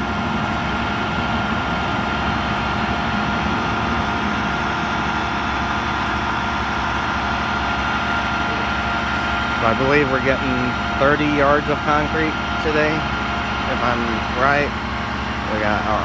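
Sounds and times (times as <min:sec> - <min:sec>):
thin steady whine: 0:00.0 - 0:16.0
truck engine running: 0:00.0 - 0:16.0.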